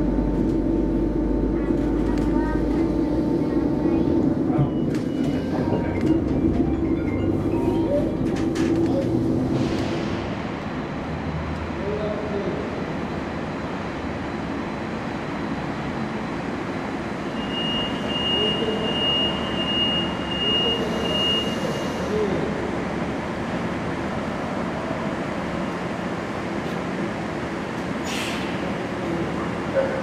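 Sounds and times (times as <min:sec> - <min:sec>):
trolley bus rumble and whine: 0:00.0 - 0:30.0.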